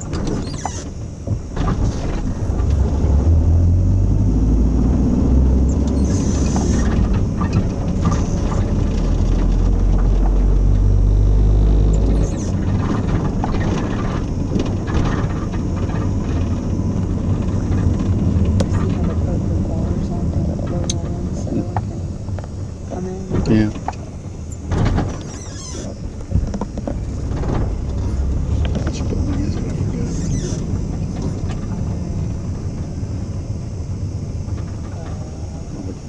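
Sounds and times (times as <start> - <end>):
engine and road rumble: 0.0 - 36.0.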